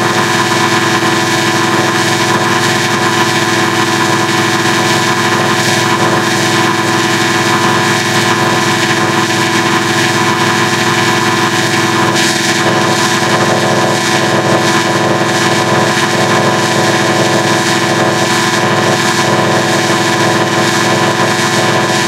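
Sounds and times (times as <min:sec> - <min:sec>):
buzzing drone of stacked tones: 0:00.0 - 0:22.0.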